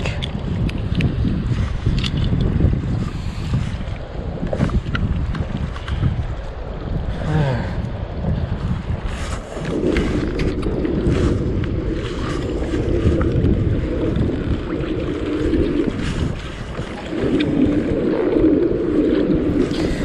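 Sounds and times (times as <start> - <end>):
water washing around kayak: 0.0 - 20.0
wind buffeting microphone: 0.0 - 20.0.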